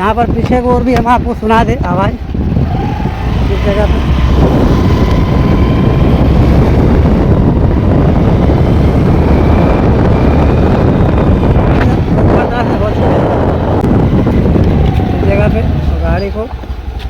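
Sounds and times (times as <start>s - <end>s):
scooter engine running: 0.0s - 17.0s
wind rumble on microphone: 0.0s - 17.0s.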